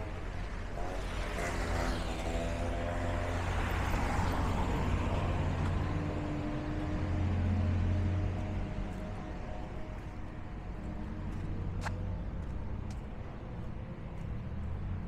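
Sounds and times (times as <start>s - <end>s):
motor vehicles passing: 0.0s - 15.0s.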